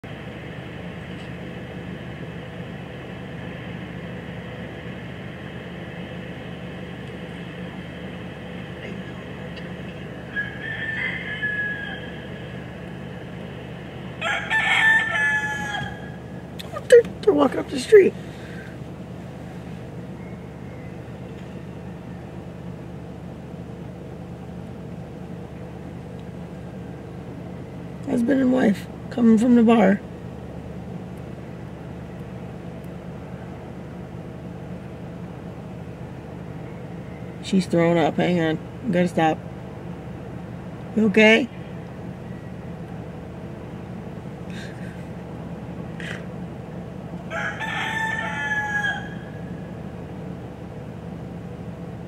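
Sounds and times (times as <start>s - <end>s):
city hum and hiss: 0.0s - 52.0s.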